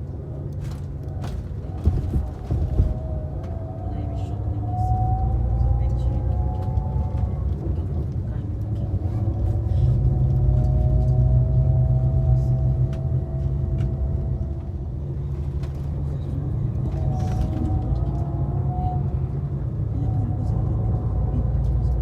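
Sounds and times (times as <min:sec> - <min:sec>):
vehicle rumble inside cabin: 0:00.0 - 0:22.0.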